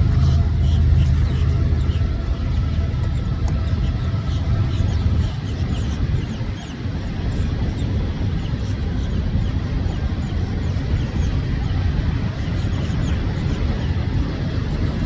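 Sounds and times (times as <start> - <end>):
passing train rumbling: 0.0 - 15.0.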